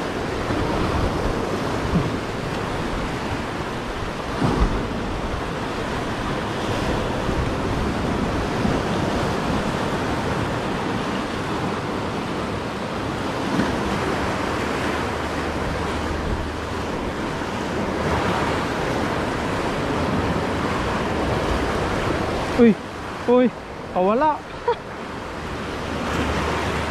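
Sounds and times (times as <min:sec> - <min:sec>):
waves washing against rocks: 0:00.0 - 0:26.9.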